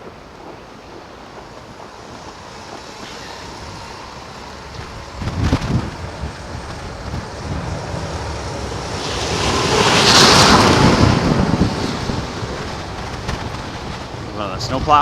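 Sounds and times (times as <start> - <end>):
snow plow passing: 0.0 - 15.0
wind buffeting microphone: 0.0 - 15.0.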